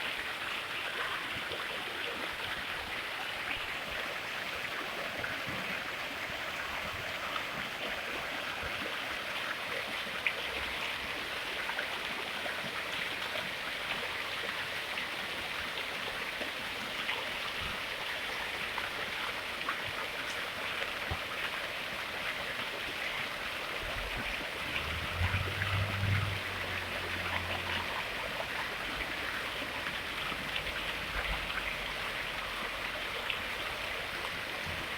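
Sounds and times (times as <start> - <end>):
fountain water splashing: 0.0 - 34.9.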